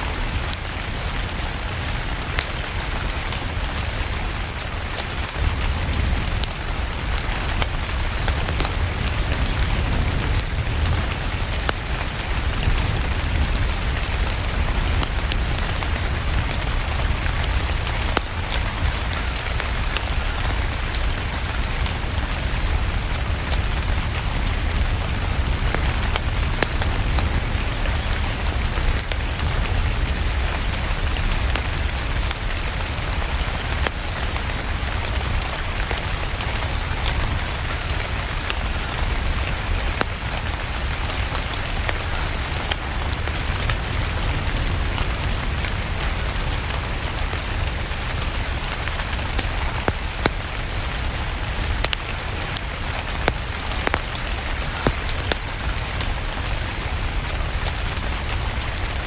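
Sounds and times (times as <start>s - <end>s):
steady rain: 0.0s - 59.0s
wood fire crackling: 0.1s - 59.0s.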